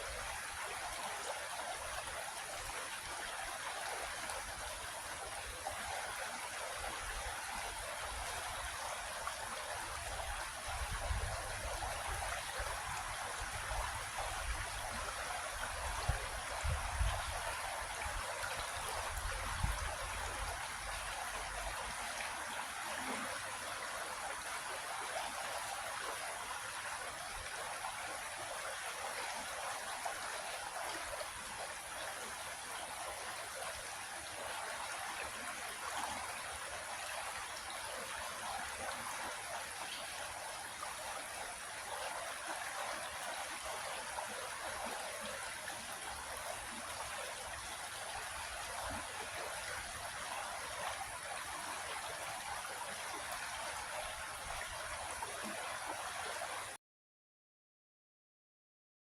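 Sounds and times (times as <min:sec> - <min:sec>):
creek water rushing and trickling: 0:00.0 - 0:56.8.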